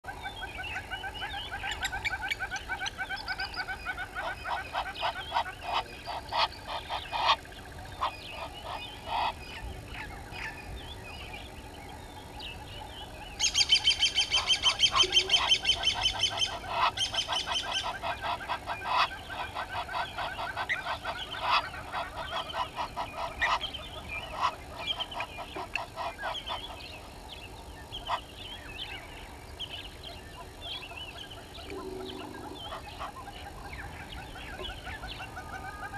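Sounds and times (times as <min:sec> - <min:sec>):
guineafowl cackling: 0:00.1 - 0:10.8, 0:12.2 - 0:29.0, 0:30.0 - 0:35.9.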